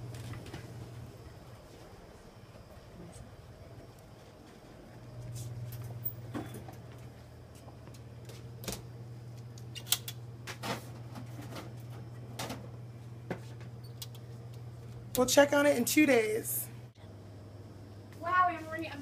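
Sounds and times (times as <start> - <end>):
incubator low hum: 0.0 - 19.0.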